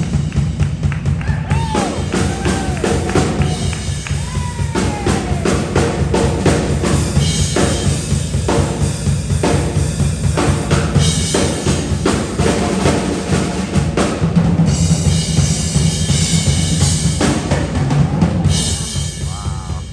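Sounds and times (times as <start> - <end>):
band playing: 0.0 - 19.9
kick and snare drum beat: 0.0 - 19.9.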